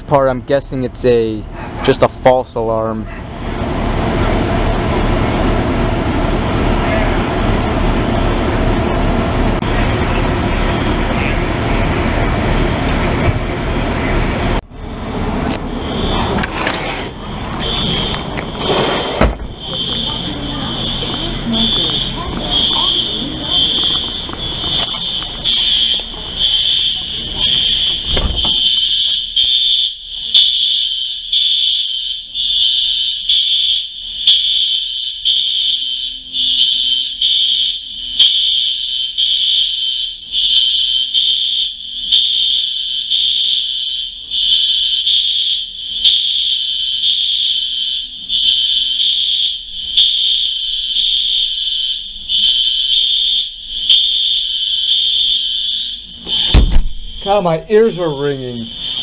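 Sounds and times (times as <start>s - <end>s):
fire alarm pulsing tone: 0.0s - 59.0s.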